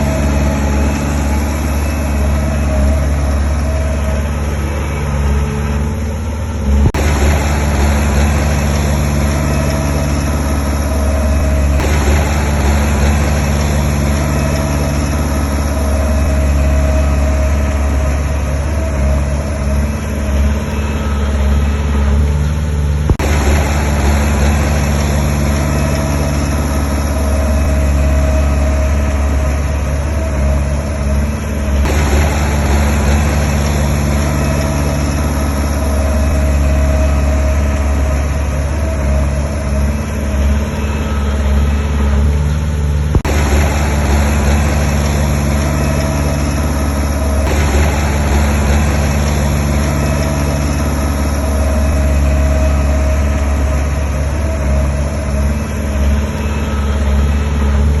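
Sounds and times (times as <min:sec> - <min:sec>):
diesel engine of heavy machinery: 0:00.0 - 0:58.0.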